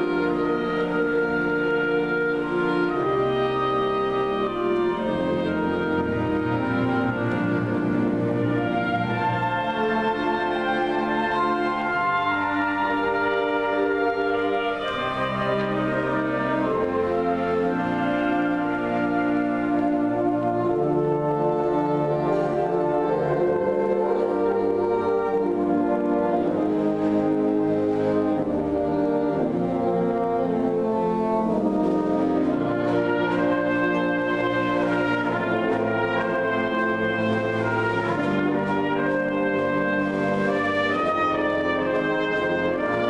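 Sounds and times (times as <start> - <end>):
wind band playing held chords: 0.0 - 43.0.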